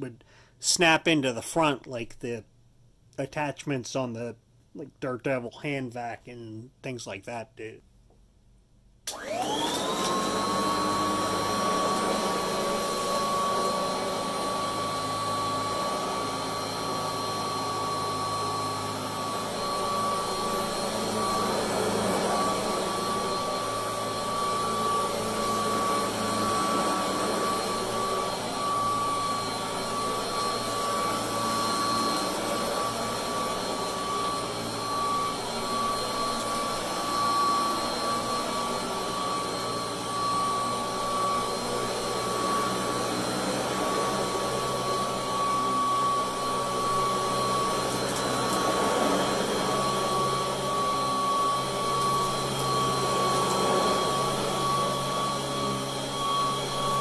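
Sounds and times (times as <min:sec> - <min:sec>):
vacuum cleaner whining: 0:09.1 - 0:57.0.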